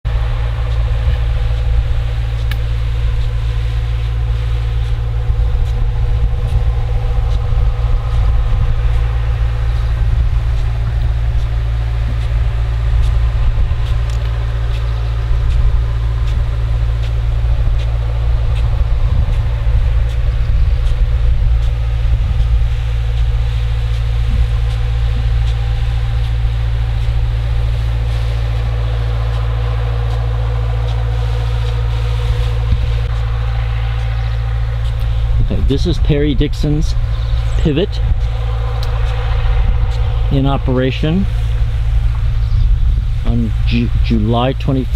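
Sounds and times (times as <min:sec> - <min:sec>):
distant diesel engine drone: 0:00.0 - 0:44.9.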